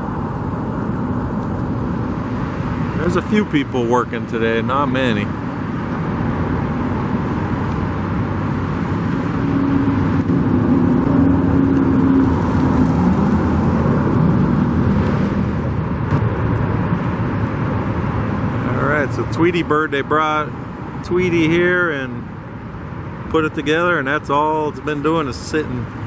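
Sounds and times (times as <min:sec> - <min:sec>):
passing engine hum: 0:00.0 - 0:23.3
traffic rumble: 0:00.0 - 0:26.0.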